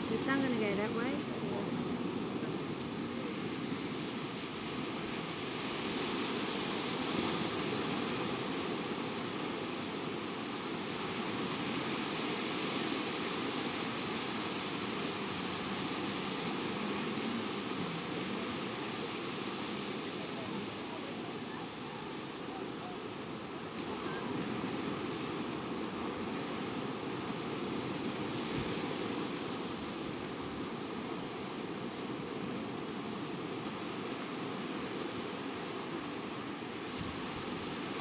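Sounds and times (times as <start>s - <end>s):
small waves breaking on beach: 0.0s - 38.0s.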